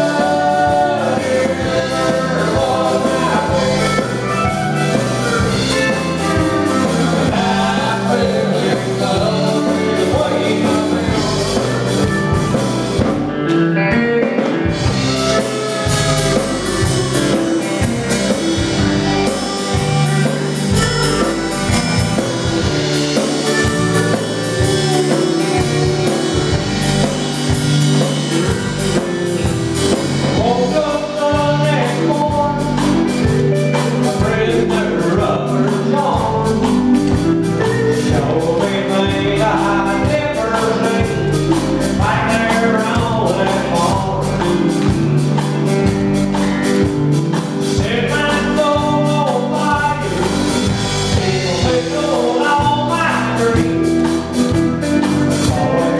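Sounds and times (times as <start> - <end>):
person singing: 0.0 - 13.4, 14.7 - 27.1, 30.2 - 45.2, 47.6 - 55.9
drum kit beat: 0.0 - 55.9
guitars: 0.0 - 55.9.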